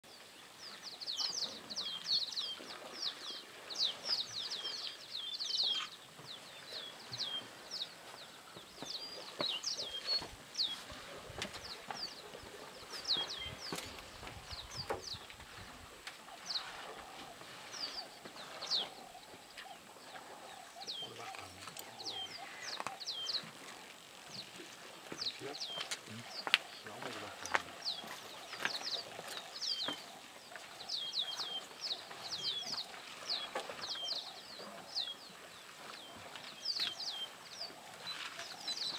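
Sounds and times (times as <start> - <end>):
small birds chirping: 0.1 - 38.9.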